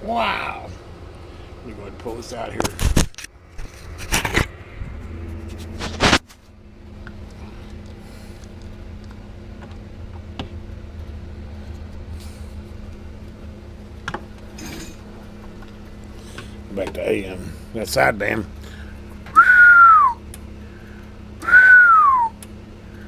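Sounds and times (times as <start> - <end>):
steady low hum with hiss: 0.0 - 23.0.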